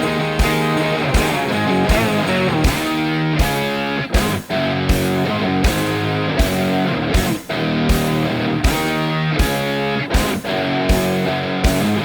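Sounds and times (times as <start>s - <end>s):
guitar-led music with drum beat: 0.0s - 12.0s.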